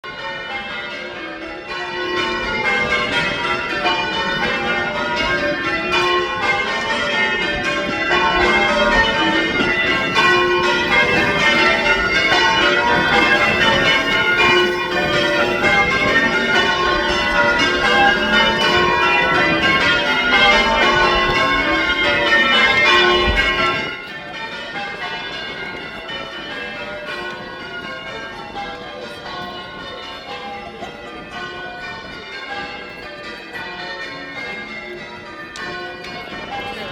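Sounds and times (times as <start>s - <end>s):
church bells pealing: 0.0s - 36.9s.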